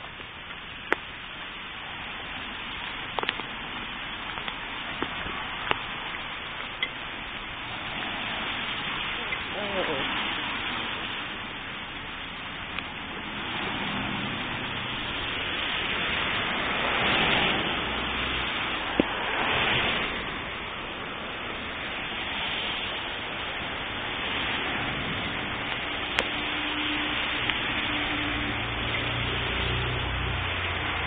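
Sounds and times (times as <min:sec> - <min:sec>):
rain and hail on wet pavement: 0:00.0 - 0:31.0.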